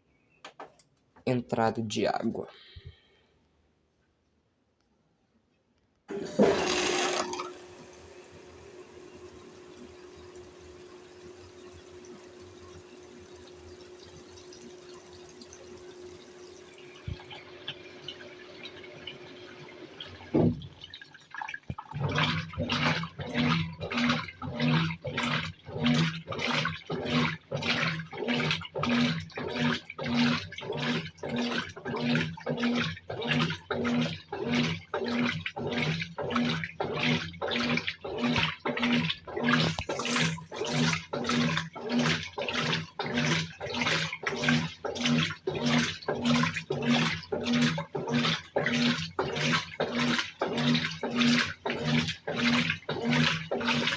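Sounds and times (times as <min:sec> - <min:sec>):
washing machine motor humming: 0:06.1 - 0:21.0, 0:21.7 - 0:53.9
water and clothes sloshing: 0:06.1 - 0:53.9.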